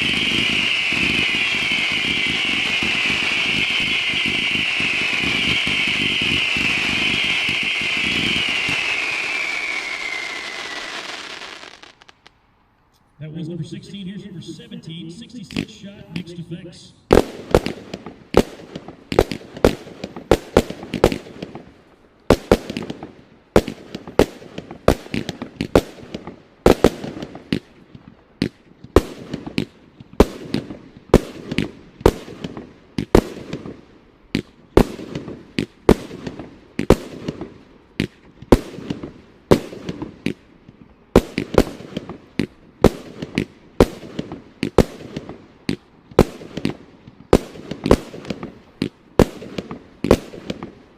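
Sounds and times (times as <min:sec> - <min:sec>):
fireworks bangs: 0:00.0 - 0:12.3, 0:13.3 - 0:50.9.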